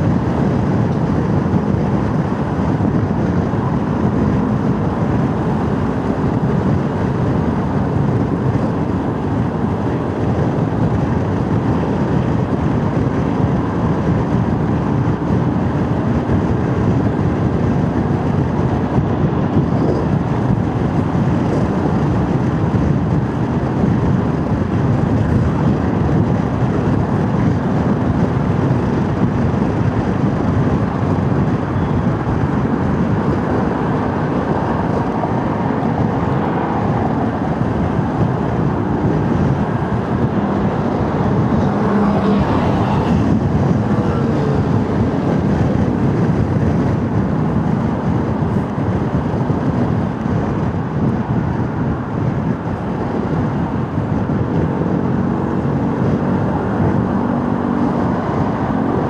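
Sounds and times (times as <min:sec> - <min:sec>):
motorcycle engine running: 0:00.0 - 0:59.0
wind rushing on microphone: 0:00.0 - 0:59.0.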